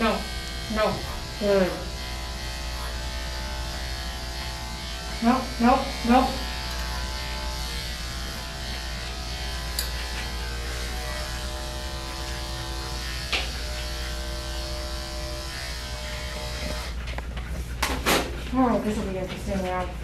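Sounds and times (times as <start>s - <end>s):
electric clippers buzzing: 0.0s - 17.0s.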